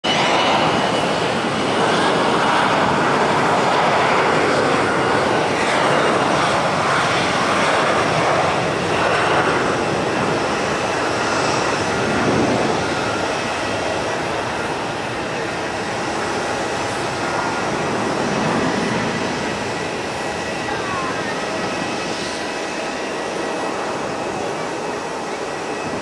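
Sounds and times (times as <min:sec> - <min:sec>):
jet engines idling: 0:00.1 - 0:26.0.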